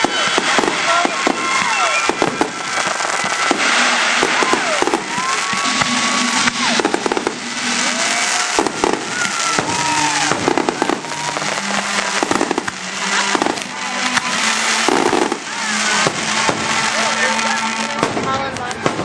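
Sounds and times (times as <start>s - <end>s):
fireworks crackling and bursting: 0.0s - 19.0s
fireworks whistles: 0.0s - 19.0s.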